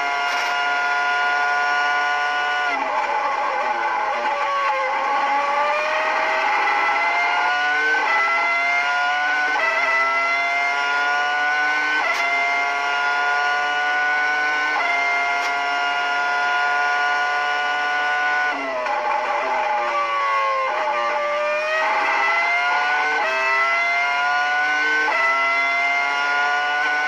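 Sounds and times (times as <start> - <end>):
racing car engine screaming: 0.0 - 27.0.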